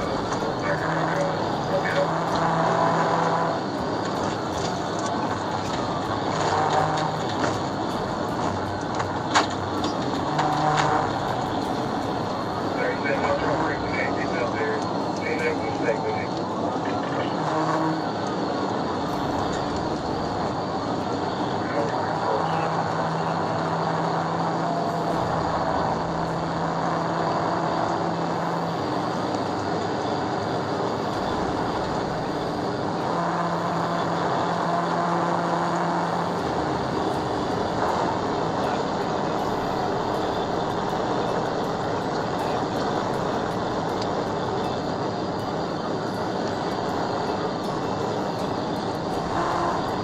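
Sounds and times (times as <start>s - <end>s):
road and engine noise: 0.0s - 50.0s.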